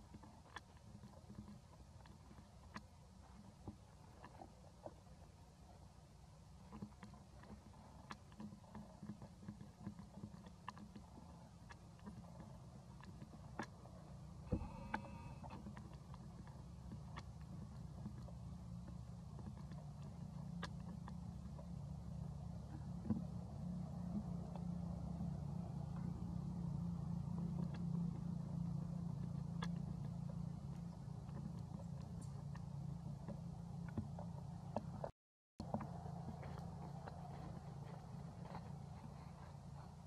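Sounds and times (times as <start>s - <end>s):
low motor hum: 0.0s - 40.0s
low steady rumble: 0.0s - 40.0s
soft clicks and ticks: 0.0s - 40.0s.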